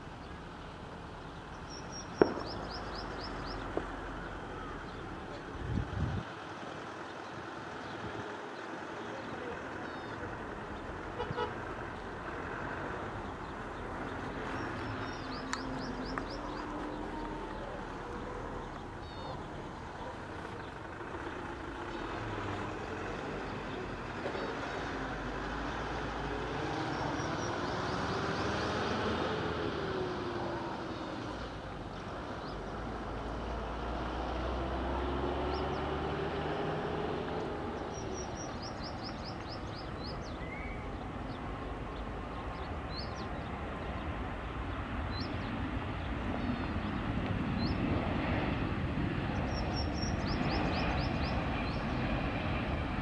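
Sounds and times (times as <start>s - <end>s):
distant engine rumble: 0.0s - 53.0s
small birds chirping: 1.2s - 32.9s, 35.0s - 53.0s.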